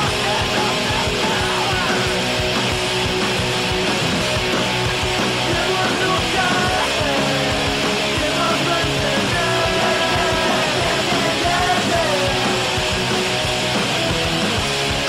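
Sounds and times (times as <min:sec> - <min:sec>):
hard rock music: 0:00.0 - 0:15.0.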